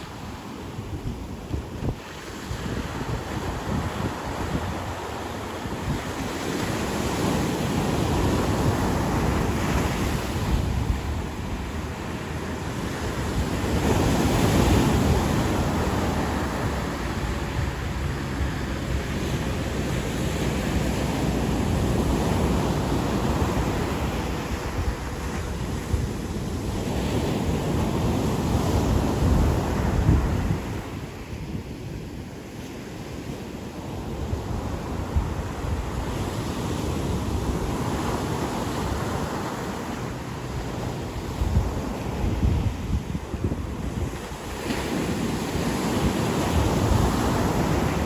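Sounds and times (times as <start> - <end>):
ocean waves breaking on beach: 0.0 - 48.0
wind buffeting microphone: 0.0 - 48.0.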